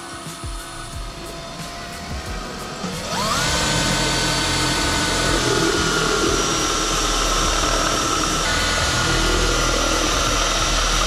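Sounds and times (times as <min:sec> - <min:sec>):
cordless drill whining: 0:00.0 - 0:11.0.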